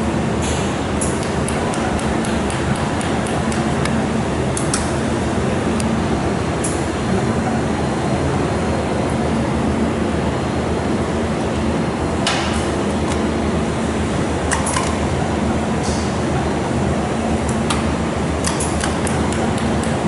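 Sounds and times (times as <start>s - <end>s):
cooling fans whirring with hum: 0.0s - 20.0s.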